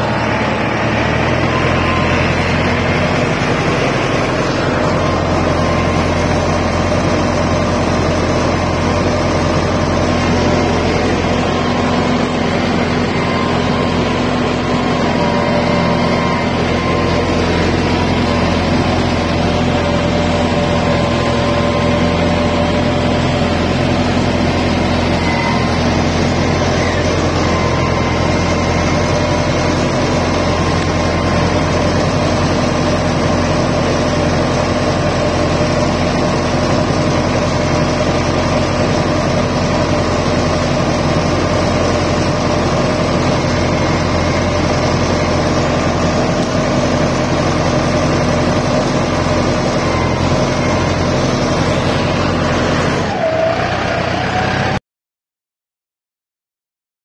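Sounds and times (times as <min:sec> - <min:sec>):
tractor diesel engine running: 0:00.0 - 0:54.8.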